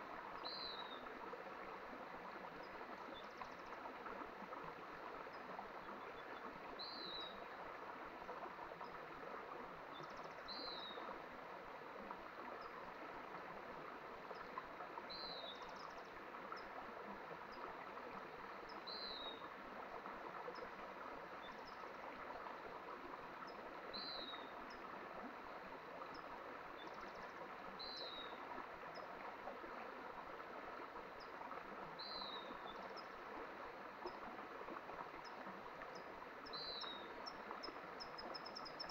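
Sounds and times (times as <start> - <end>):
mountain stream flowing: 0.0 - 38.9.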